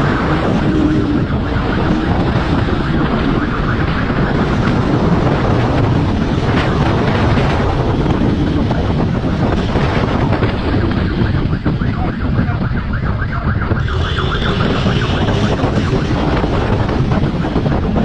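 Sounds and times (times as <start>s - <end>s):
road noise at speed: 0.0s - 18.0s
vehicle engine: 0.0s - 18.0s
wind rushing over microphone: 0.0s - 18.0s.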